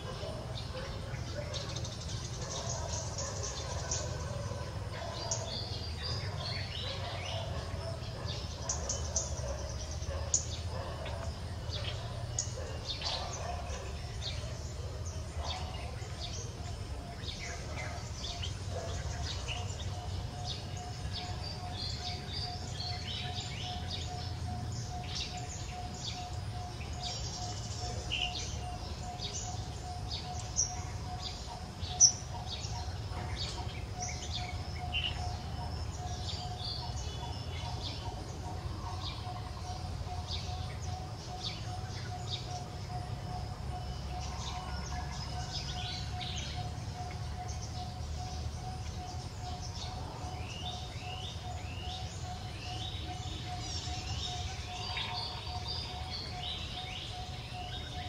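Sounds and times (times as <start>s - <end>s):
bird chirps: 0.0s - 58.0s
faint constant tone: 0.0s - 58.0s.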